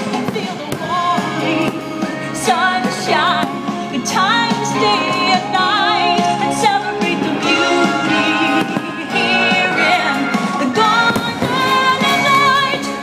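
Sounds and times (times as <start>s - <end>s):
pop song with vocalist singing: 0.0s - 13.0s.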